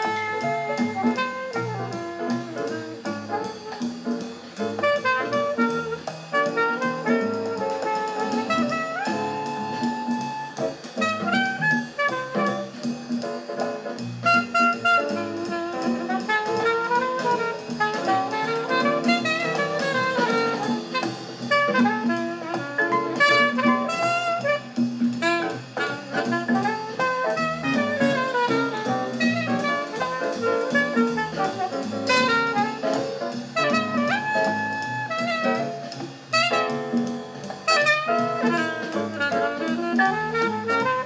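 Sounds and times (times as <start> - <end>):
bass and drum kit: 0.0 - 41.0
horn melody: 0.0 - 41.0
jazz record playing through speakers: 0.0 - 41.0.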